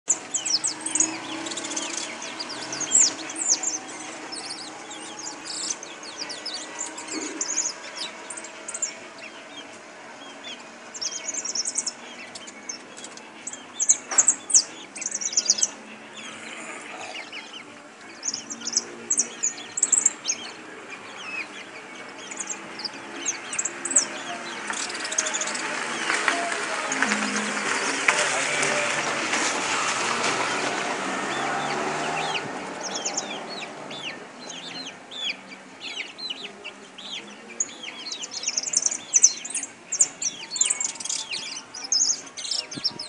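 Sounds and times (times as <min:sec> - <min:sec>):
finch twittering song: 0:00.1 - 0:43.0.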